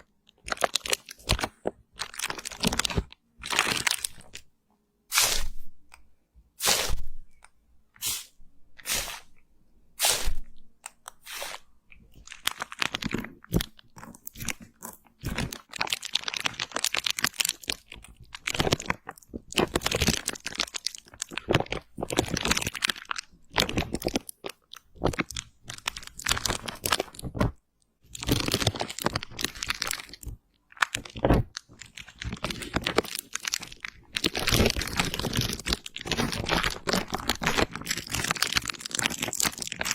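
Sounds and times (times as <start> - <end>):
close crunching and crackling: 0.0 - 4.5, 10.0 - 39.9.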